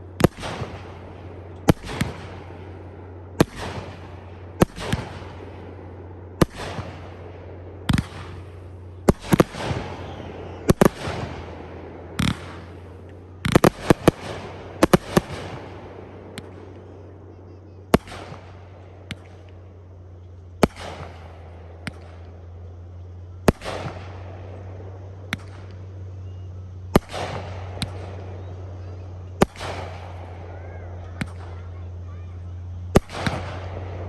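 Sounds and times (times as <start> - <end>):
fireworks bangs: 0.0 - 34.0
low hum: 0.0 - 34.0
small fireworks pops: 0.0 - 34.0.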